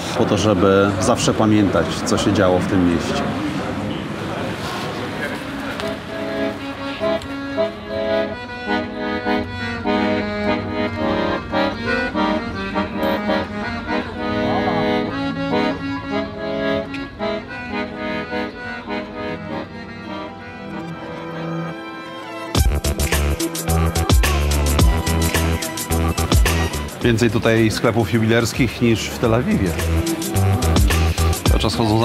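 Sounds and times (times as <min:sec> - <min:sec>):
accordion playing a tune: 0:00.0 - 0:32.0.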